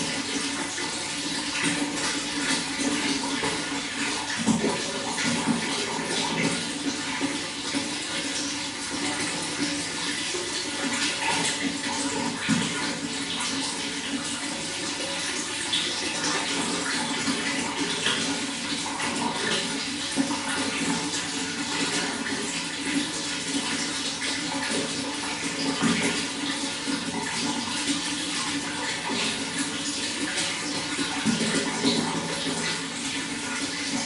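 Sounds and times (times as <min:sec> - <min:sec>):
running water with splashes: 0:00.0 - 0:34.0.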